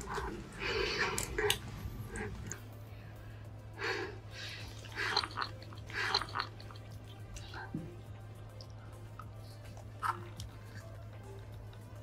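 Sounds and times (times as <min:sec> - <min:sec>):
wet eating noises: 0:00.0 - 0:02.7, 0:04.4 - 0:12.0
soft background music: 0:00.0 - 0:12.0.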